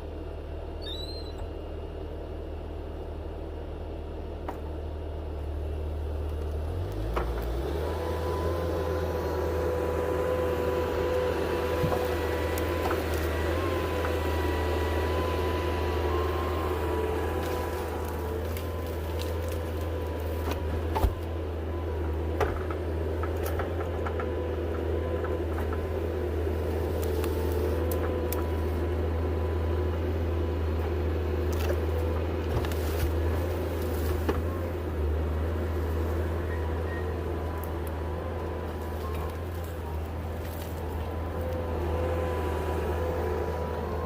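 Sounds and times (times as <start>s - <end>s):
vehicle engine droning: 0.0s - 44.0s.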